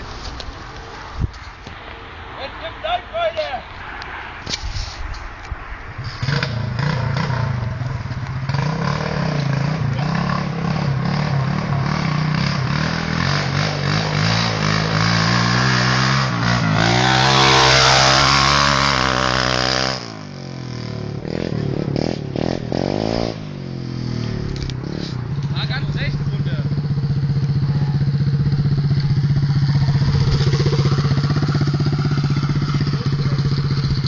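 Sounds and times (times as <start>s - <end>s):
motorbike engine revving: 6.0s - 34.0s.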